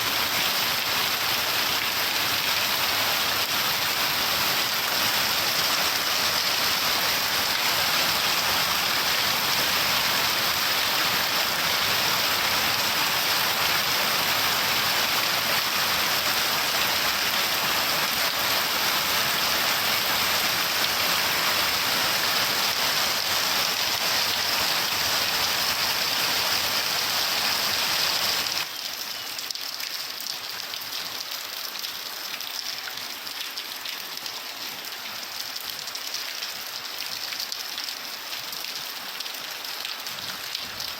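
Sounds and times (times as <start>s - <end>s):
dense rainfall hissing: 0.0s - 40.9s.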